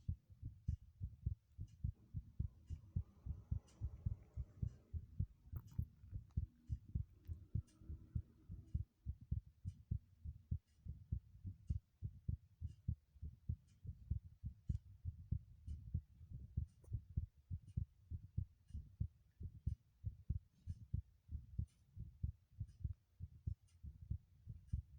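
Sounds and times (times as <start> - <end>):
fast heartbeat thumps: 0.0 - 24.9.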